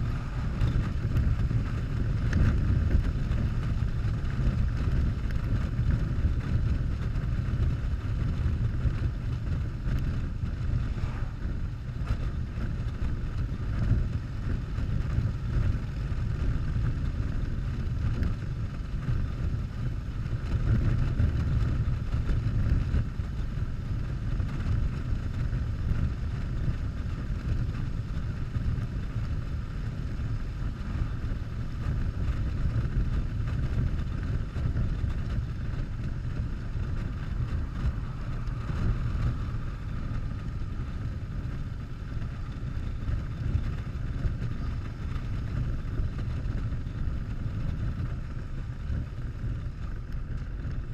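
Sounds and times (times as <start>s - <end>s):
motorcycle engine rumbling: 0.0s - 50.9s
wind rushing over microphone: 0.0s - 50.9s.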